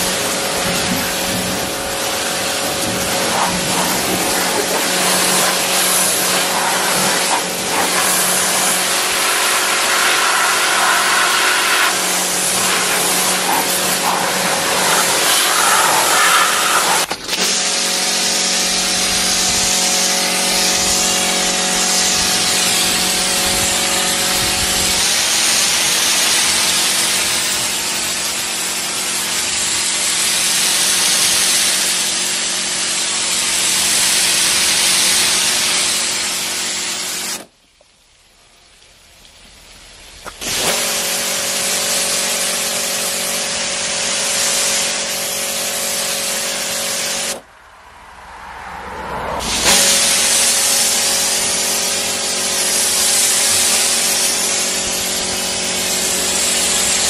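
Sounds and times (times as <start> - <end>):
pressure washer water jet hiss: 0.0 - 37.6, 38.7 - 47.5, 49.4 - 57.0
pump motor hum: 0.0 - 38.0, 39.4 - 47.4, 49.4 - 57.0.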